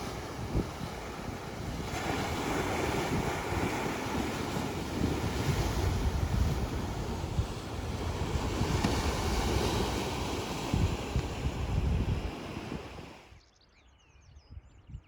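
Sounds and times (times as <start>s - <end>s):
sea surf: 0.0s - 13.3s
wind buffeting microphone: 0.0s - 13.4s.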